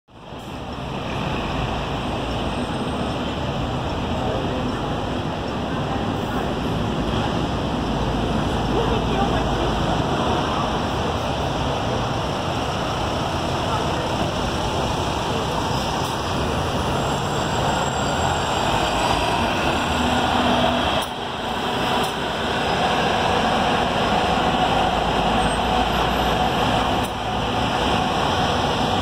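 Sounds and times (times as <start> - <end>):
bus diesel engines pulling away: 0.1 - 29.0
traffic noise: 0.1 - 29.0.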